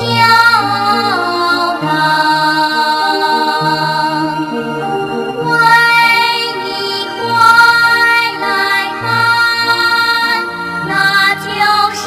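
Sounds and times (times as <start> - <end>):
light instrumental accompaniment: 0.0 - 12.0
person singing: 0.0 - 12.0.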